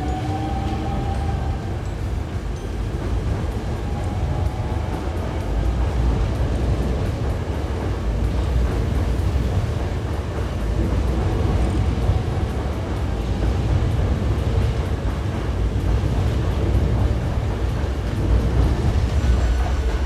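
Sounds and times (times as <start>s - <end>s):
electric train running: 0.0s - 20.0s
faint tone above train: 0.0s - 20.0s.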